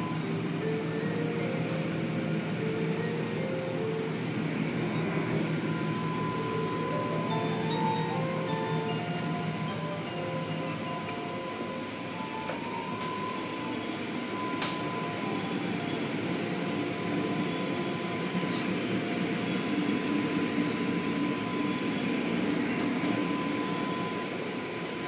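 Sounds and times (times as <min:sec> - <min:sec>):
thin steady whine: 0:00.0 - 0:25.0.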